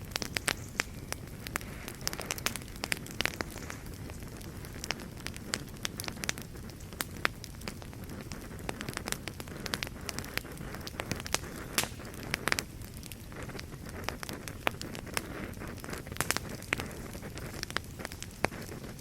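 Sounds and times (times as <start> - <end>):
fire crackling: 0.0 - 19.0
low rumble of burning: 0.0 - 19.0.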